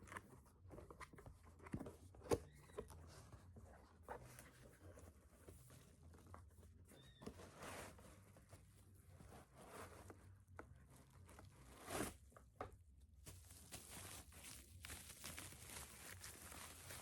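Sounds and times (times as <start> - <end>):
rustling and handling noise: 0.0 - 17.0.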